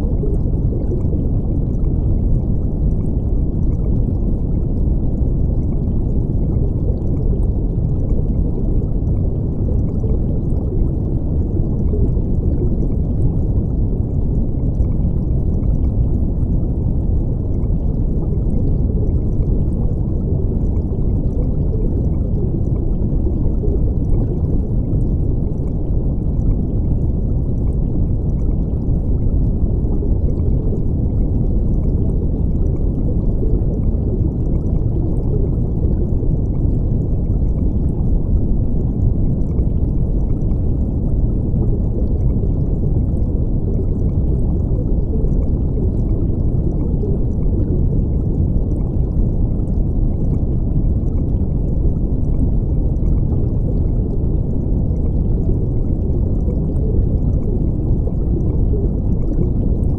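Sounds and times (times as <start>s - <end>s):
muffled rush of water: 0.0s - 59.9s.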